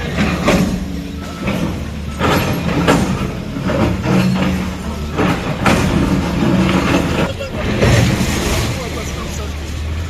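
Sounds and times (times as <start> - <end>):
knocks and clatter: 0.0 - 9.9
heavy machine engine running: 0.0 - 10.0.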